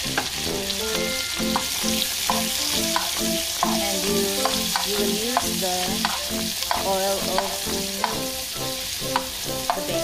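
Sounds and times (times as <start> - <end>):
onion sizzling in a pan: 0.0 - 10.0.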